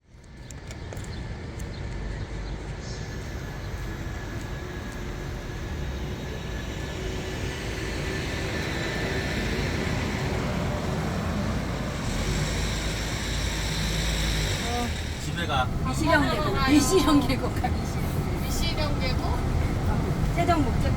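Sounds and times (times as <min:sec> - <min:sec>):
vehicle road and engine rumble: 0:00.0 - 0:20.9.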